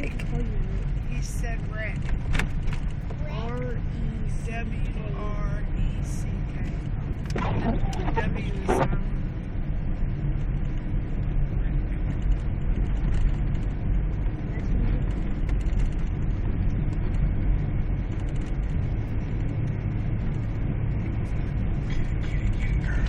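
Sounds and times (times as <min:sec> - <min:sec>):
car rumbling through snow: 0:00.0 - 0:23.0.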